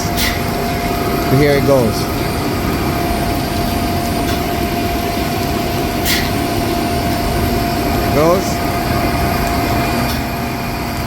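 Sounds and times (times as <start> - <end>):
hydraulic pump humming and whining: 0.0 - 11.0.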